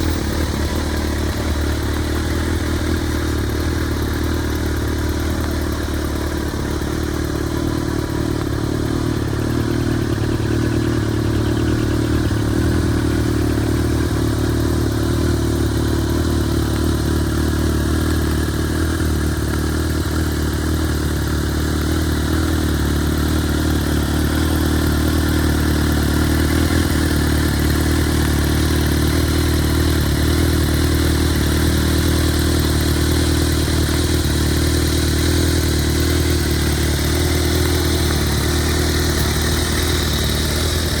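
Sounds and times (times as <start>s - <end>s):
motorcycle engine idling: 0.0s - 41.0s.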